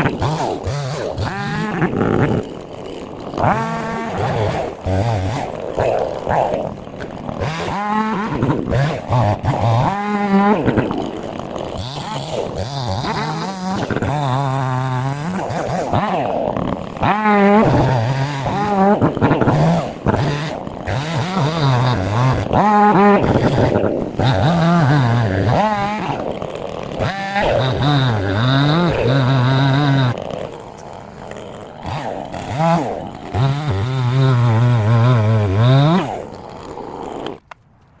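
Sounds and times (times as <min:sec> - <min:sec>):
chainsaw cutting: 0:00.0 - 0:37.8.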